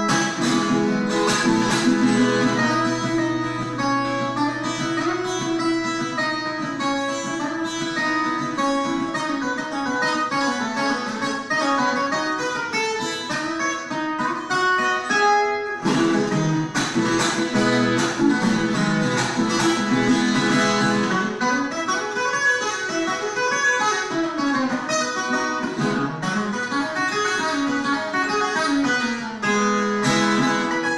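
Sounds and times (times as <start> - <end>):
folk guitar picked melody: 0.0 - 30.9.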